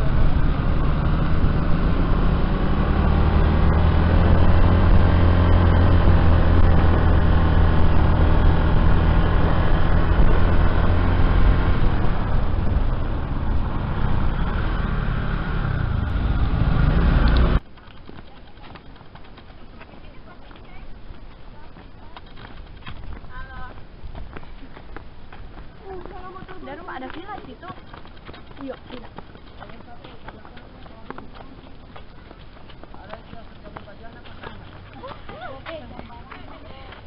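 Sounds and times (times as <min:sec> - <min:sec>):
road noise: 0:00.0 - 0:37.0
vehicle engine running: 0:00.0 - 0:37.0
wind noise: 0:00.0 - 0:37.0.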